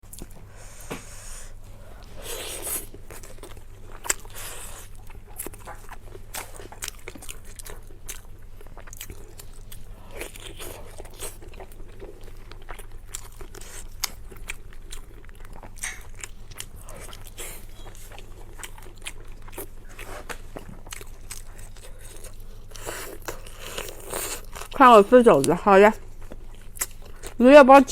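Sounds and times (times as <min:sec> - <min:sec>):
low steady hum: 0:00.0 - 0:27.9
person chewing crunchy food: 0:00.1 - 0:27.4.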